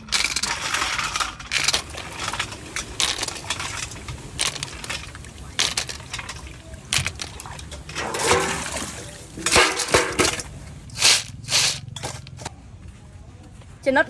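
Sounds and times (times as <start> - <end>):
water splashing and sloshing: 0.0 - 12.4.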